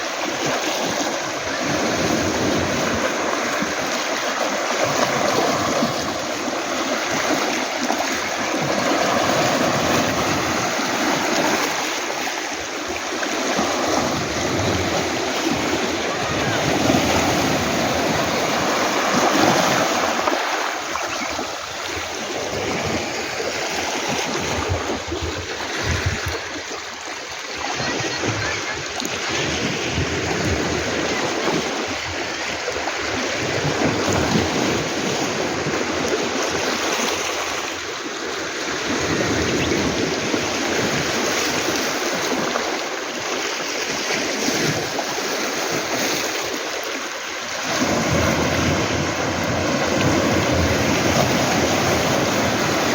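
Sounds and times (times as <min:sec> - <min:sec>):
surf washing onto pebbles: 0:00.0 - 0:32.0, 0:39.0 - 0:52.9.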